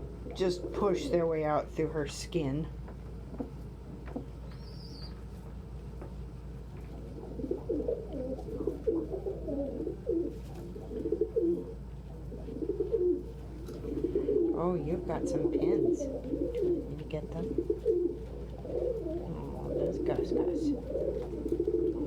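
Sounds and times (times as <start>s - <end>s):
pigeons cooing: 0.0s - 1.8s, 3.2s - 5.3s, 6.4s - 22.0s.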